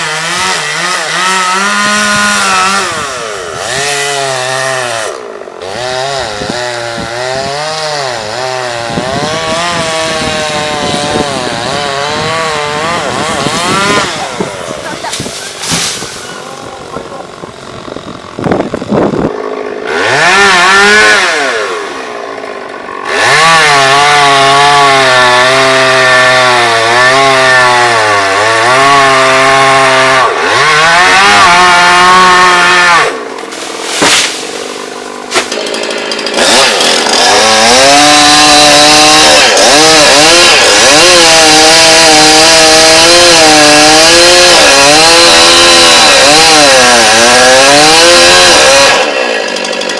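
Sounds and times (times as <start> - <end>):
chainsaw cutting: 0.0 - 49.9.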